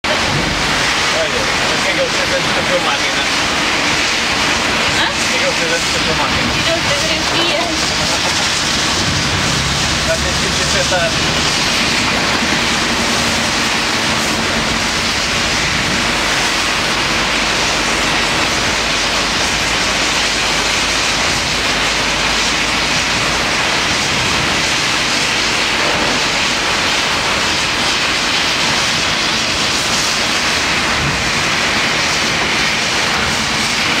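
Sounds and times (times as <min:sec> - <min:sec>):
heavy rain hiss: 0:00.0 - 0:34.0
low rumble: 0:00.0 - 0:34.0
tyres on wet road: 0:00.0 - 0:34.0.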